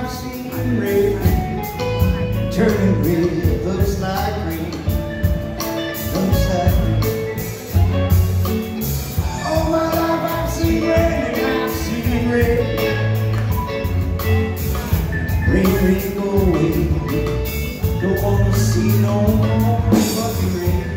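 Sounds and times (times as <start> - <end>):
bass guitar: 0.0 - 20.9
drum kit beat: 0.0 - 20.9
electric guitars: 0.0 - 20.9.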